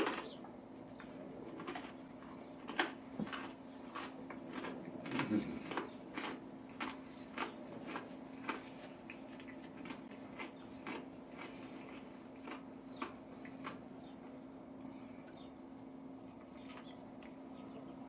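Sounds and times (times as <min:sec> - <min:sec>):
chewing crispy food: 0:00.0 - 0:18.0.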